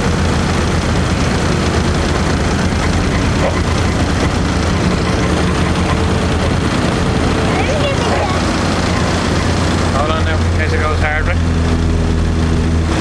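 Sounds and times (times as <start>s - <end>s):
ferry engines humming: 0.0s - 13.0s.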